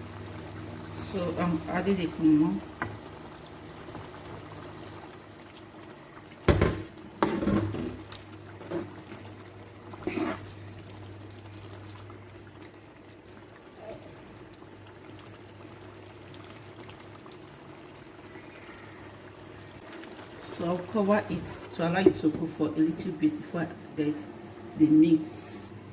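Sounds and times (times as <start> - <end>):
soup bubbling in pot: 0.0 - 23.2.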